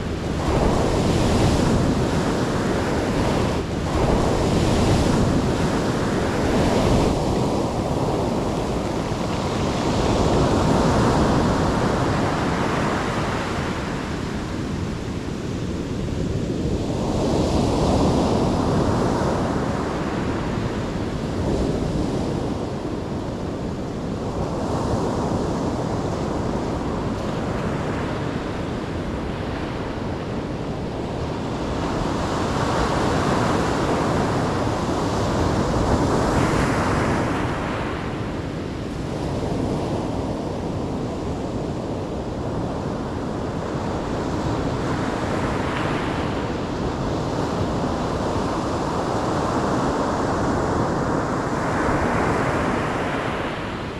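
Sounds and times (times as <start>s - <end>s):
ocean waves breaking on shore: 0.0s - 53.9s
wind noise on microphone: 0.0s - 53.9s.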